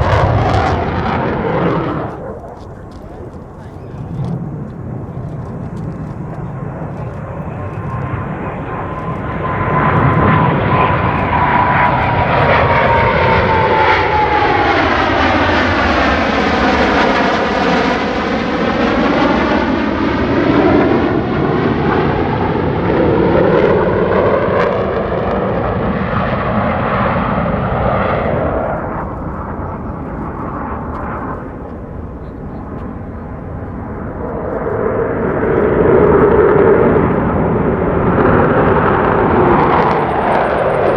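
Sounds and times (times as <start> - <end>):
jet high whine: 0.0 - 40.9
jet roar flying past: 0.0 - 40.9.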